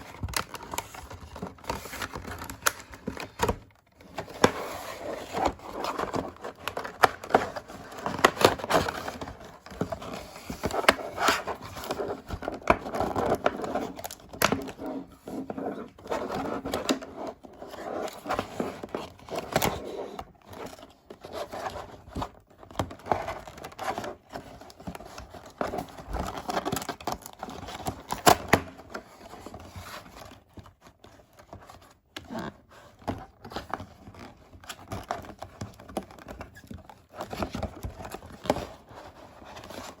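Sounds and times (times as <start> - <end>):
packaging crinkling and rustling: 0.0 - 40.0.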